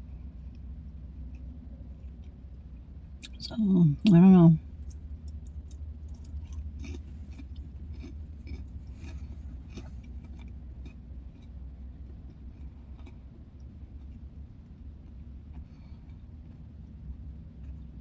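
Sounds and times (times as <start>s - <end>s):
steady low hum: 0.0s - 18.0s
chewing with crunching clicks: 0.1s - 3.4s, 4.8s - 18.0s.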